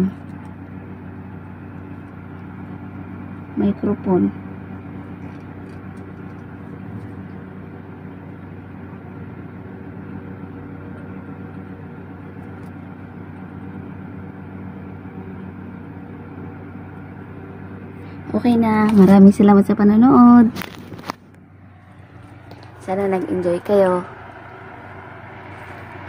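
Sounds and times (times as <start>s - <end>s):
low buzzing hum: 0.0s - 26.0s.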